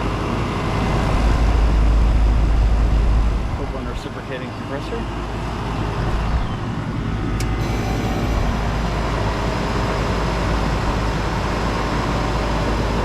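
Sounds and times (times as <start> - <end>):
air conditioner compressor and fan: 0.0 - 13.0.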